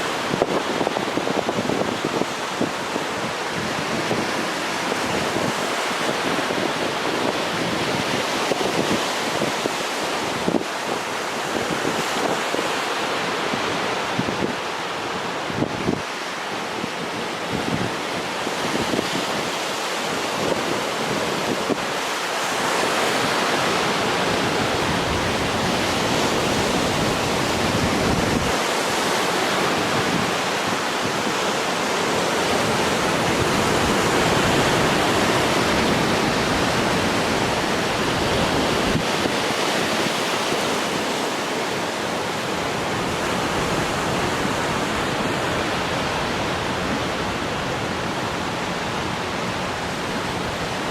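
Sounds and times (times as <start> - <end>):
sea waves breaking: 0.0 - 50.9.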